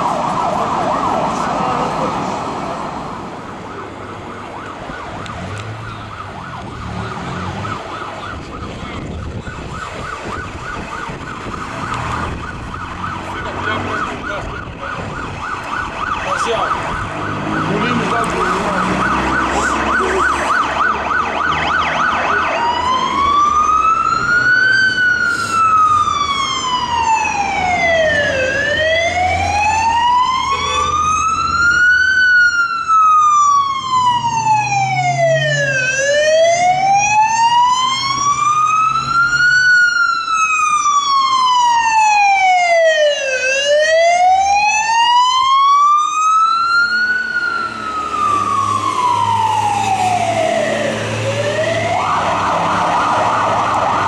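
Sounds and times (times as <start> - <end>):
engine and traffic rumble: 0.0 - 54.0
fire truck siren: 0.0 - 54.0.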